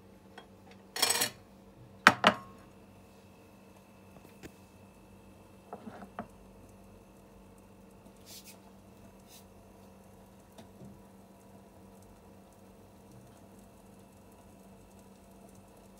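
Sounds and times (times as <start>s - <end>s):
low room hum: 0.0s - 15.9s.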